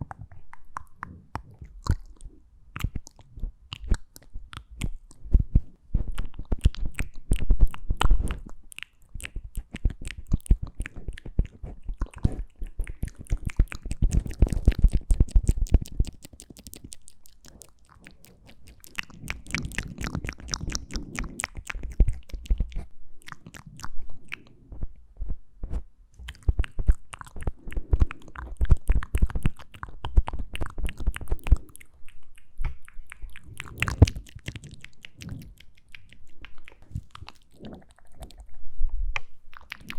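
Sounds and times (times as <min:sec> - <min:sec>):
wet mouth clicks and smacks: 0:00.0 - 0:24.6, 0:26.2 - 0:38.6, 0:39.2 - 0:39.9.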